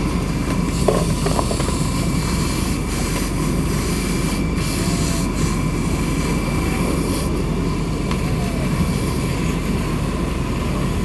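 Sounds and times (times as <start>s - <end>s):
fire hose spraying water: 0.0s - 11.0s
fire pump engine drone: 0.0s - 11.0s.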